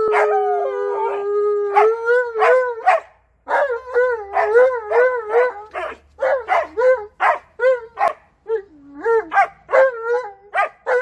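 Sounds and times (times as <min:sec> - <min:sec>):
dog howling: 0:00.0 - 0:11.0.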